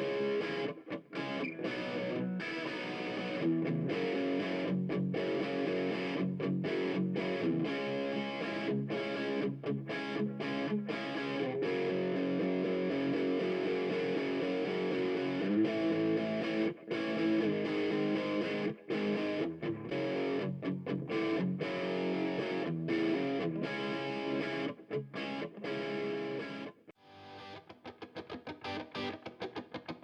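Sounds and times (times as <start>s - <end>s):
distorted electric guitar music: 0.0s - 30.0s.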